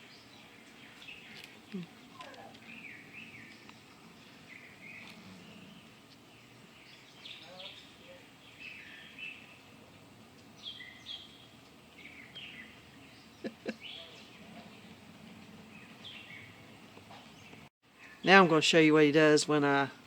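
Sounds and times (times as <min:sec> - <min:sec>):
birds chirping: 0:00.0 - 0:18.5
faint outdoor background noise: 0:00.0 - 0:20.0.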